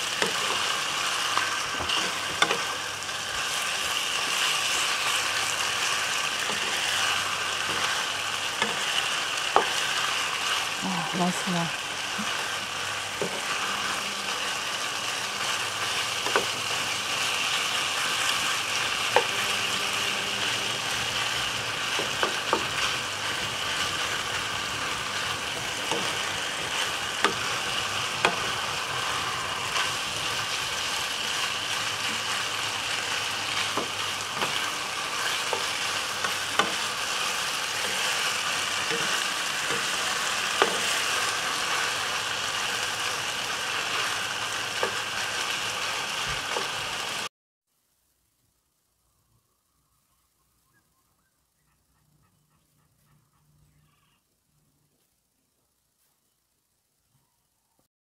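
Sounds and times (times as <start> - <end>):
meat sizzling in hot oil: 0.0 - 47.3.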